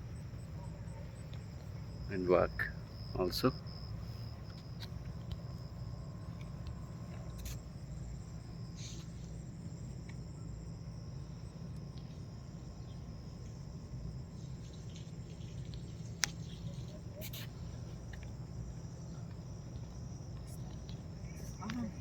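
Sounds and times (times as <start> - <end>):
crickets trilling: 0.0 - 22.0
low steady rumble: 0.0 - 22.0.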